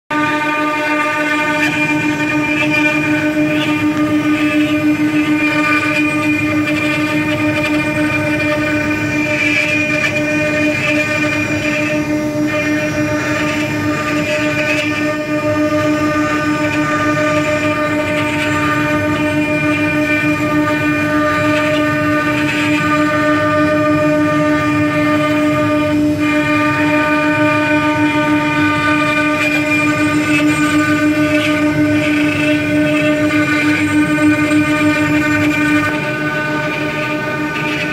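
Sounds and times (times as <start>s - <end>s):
router spindles whining: 0.1s - 37.9s.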